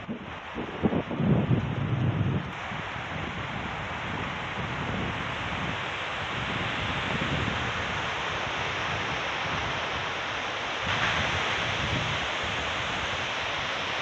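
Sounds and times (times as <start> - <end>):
strong wind through pine trees: 0.0 - 14.0
wind rumbling on microphone: 0.0 - 14.0.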